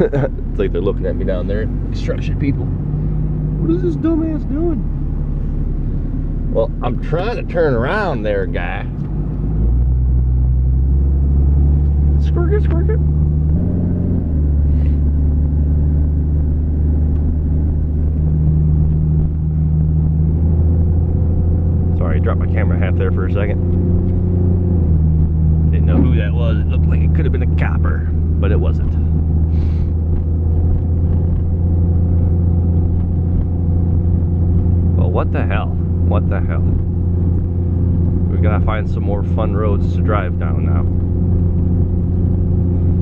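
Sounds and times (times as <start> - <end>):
car engine droning: 0.0 - 43.0.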